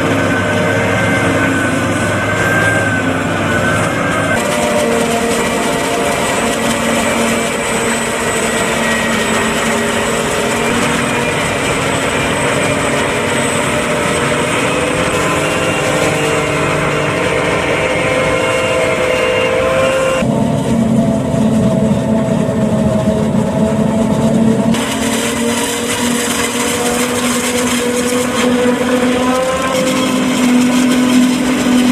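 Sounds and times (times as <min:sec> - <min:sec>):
harvester mechanical drone: 0:00.0 - 0:31.9.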